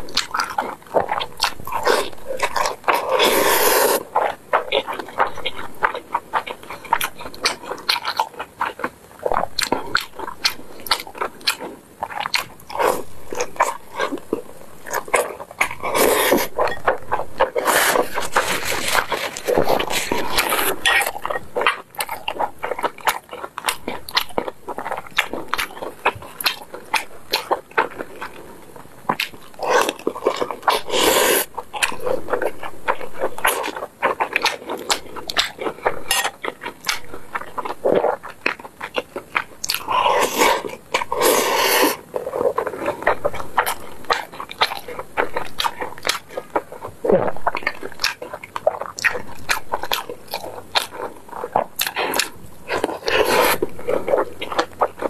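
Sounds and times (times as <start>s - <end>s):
wet mouth smacks and chewing: 0.0s - 28.5s, 29.1s - 55.0s.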